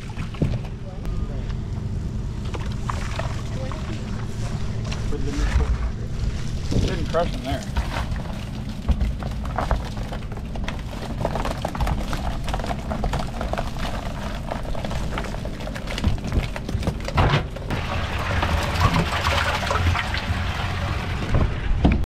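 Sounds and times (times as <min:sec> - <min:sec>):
water splashing: 0:00.0 - 0:00.7, 0:02.4 - 0:21.7
water noise: 0:00.0 - 0:22.0
wind: 0:00.0 - 0:22.0.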